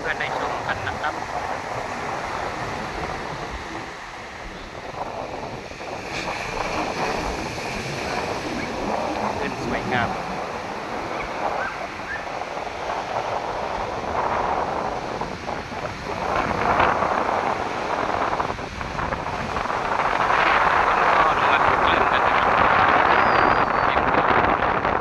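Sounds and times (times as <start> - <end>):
sea waves breaking on beach: 0.0 - 25.0
wind buffeting microphone: 0.0 - 25.0.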